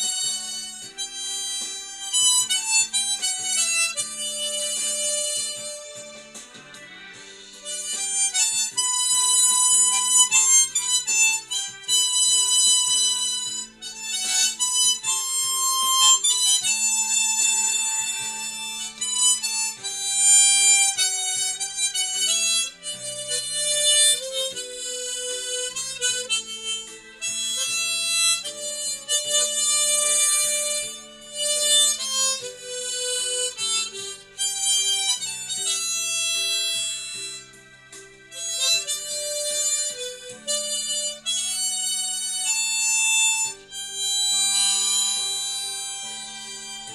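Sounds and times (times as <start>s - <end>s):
harmonica melody: 0.0s - 46.9s.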